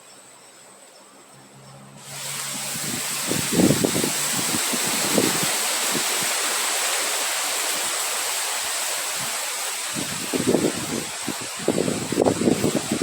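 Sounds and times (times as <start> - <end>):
rushing wind: 2.0 - 13.0
wind gusts buffeting microphone: 2.0 - 13.0.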